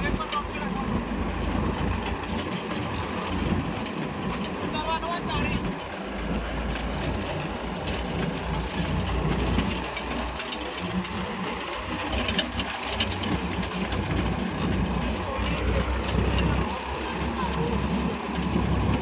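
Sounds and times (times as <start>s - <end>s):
clicks and rattles: 0.0s - 19.0s
tractor diesel engine running: 0.0s - 19.0s.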